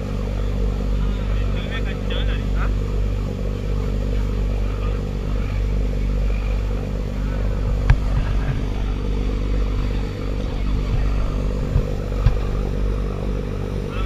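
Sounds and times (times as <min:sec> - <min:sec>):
boat engine drone: 0:00.0 - 0:14.0
wake water rushing: 0:00.8 - 0:14.0.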